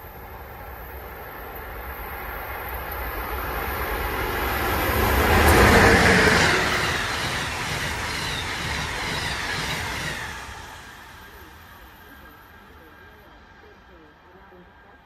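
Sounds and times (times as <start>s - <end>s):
train wheels rumbling on rails: 0.0s - 14.9s
train rushing past: 0.0s - 15.0s.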